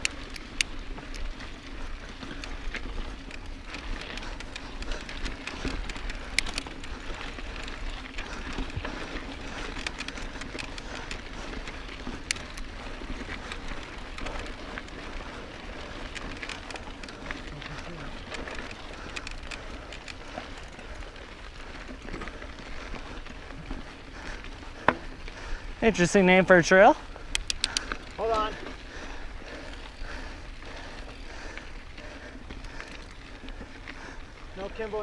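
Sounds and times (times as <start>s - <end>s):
bike tyres crunching on grit: 0.0s - 35.0s
stones and bike rattling: 0.0s - 35.0s.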